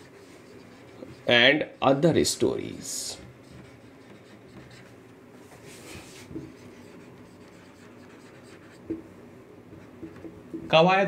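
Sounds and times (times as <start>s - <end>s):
marker pen on whiteboard: 0.0s - 11.0s.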